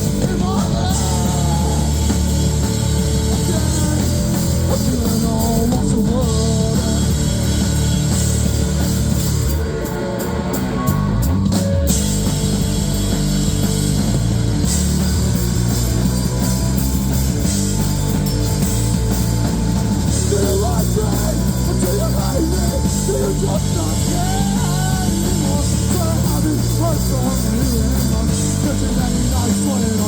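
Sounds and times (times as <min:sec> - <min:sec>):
drum kit: 0:00.0 - 0:30.0
electric guitar: 0:00.0 - 0:30.0
rock band playing: 0:00.0 - 0:30.0.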